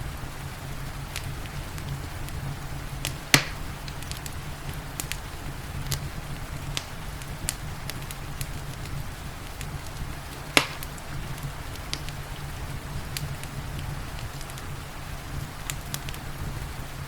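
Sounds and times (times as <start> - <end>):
rain hiss: 0.0 - 17.0
wood fire crackling: 0.0 - 17.0.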